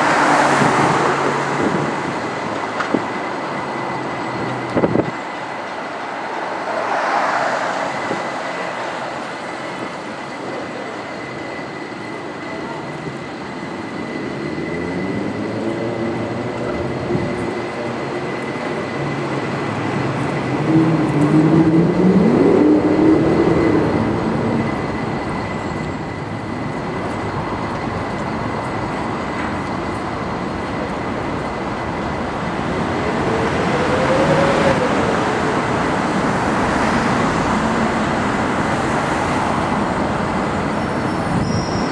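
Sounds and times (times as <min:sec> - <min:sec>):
rail vehicle passing with whine: 0:00.0 - 0:41.9.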